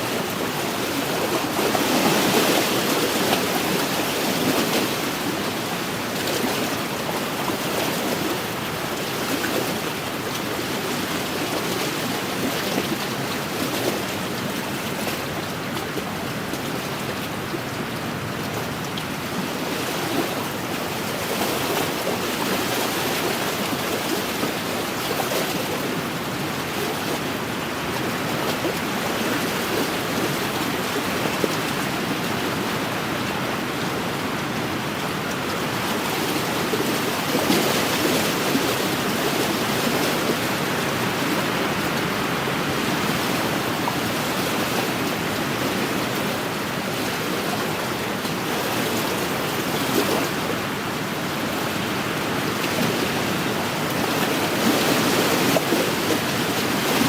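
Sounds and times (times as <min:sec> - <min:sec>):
waves lapping against shore: 0:00.0 - 0:57.0.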